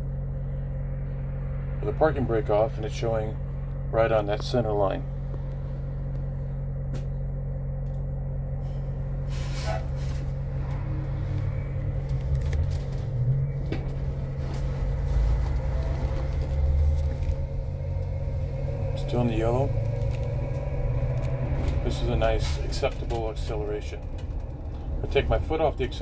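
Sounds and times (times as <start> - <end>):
electric drive hum: 0.0 - 26.0
road rumble: 0.0 - 26.0.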